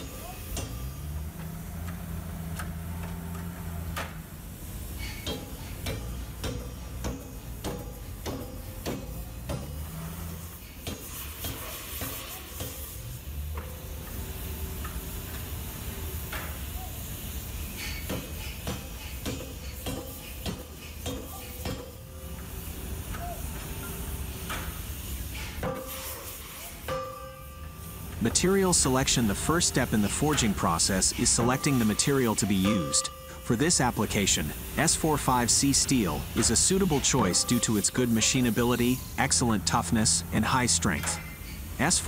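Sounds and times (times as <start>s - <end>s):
hot steel sizzling and crackling: 0.0s - 42.0s.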